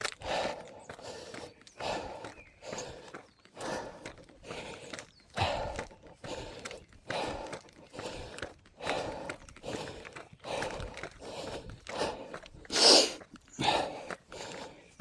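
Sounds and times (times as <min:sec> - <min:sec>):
footsteps: 0:00.0 - 0:14.7
person breathing hard: 0:00.1 - 0:15.0.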